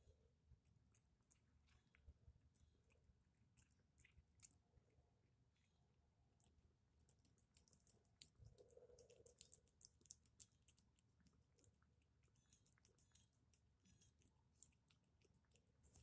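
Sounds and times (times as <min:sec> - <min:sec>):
cat chewing food: 0:00.1 - 0:16.0.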